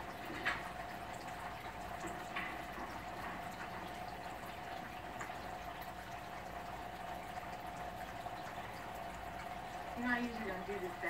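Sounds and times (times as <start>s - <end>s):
steady hiss with faint hum: 0.0s - 11.0s.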